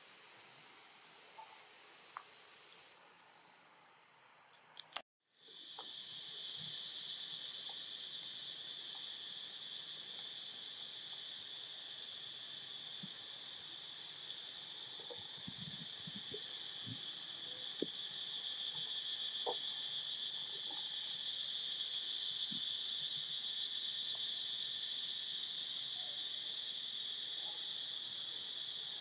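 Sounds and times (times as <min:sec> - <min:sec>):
insects droning: 0:00.0 - 0:29.0
faint ticks and rustles: 0:00.4 - 0:08.0, 0:08.8 - 0:24.6.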